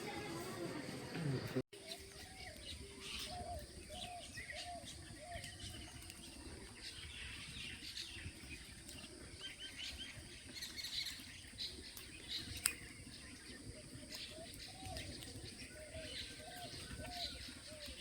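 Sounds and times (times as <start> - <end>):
birds chirping and calling: 0.0 - 18.0
low rural background noise: 0.0 - 18.0.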